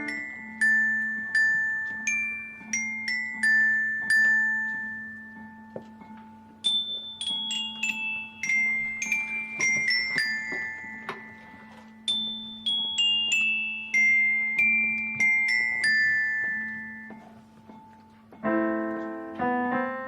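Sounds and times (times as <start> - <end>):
glockenspiel melody: 0.0 - 20.0.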